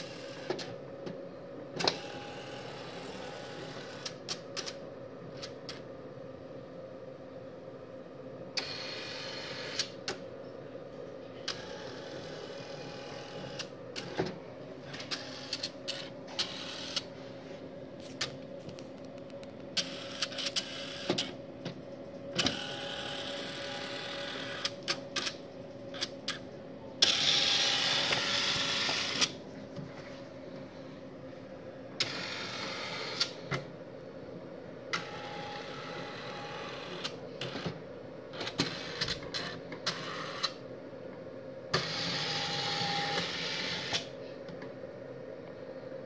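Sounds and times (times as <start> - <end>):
steady machine hum: 0.0 - 46.0.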